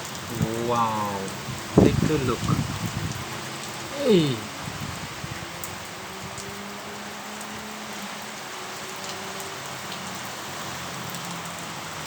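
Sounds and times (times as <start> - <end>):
raindrops ticking on surfaces: 0.0 - 12.0
steady rain hiss: 0.0 - 12.0.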